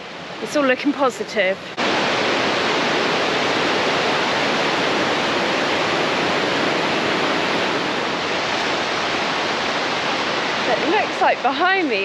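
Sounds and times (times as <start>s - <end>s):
rushing white water: 0.0s - 12.0s.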